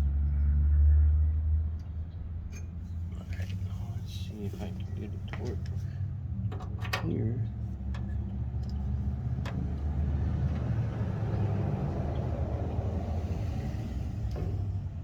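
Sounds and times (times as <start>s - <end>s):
engine-like mechanical hum: 0.0s - 15.0s.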